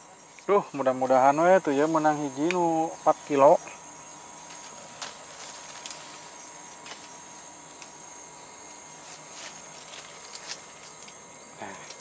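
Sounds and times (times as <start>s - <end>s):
faint steady whine: 0.0s - 12.0s
forest insects chorus: 0.0s - 12.0s.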